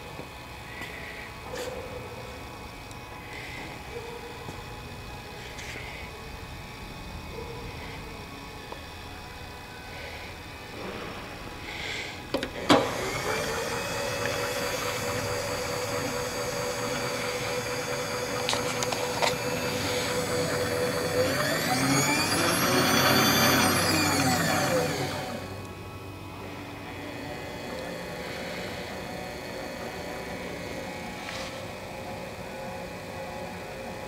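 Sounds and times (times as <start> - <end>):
motor whine: 0.0 - 34.0.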